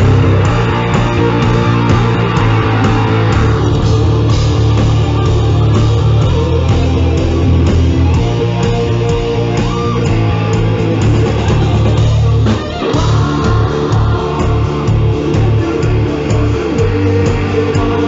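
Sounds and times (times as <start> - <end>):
electric guitar: 0.0 - 18.0
heavy metal band playing live: 0.0 - 18.0.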